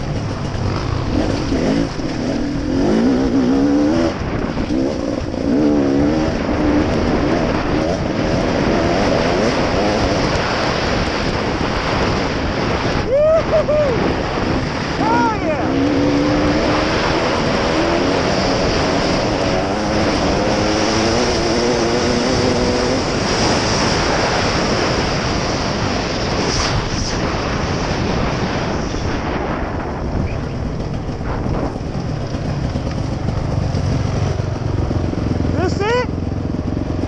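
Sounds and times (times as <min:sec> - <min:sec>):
dirt bike engine running: 0:00.0 - 0:37.0
wind rush on microphone: 0:00.0 - 0:37.0.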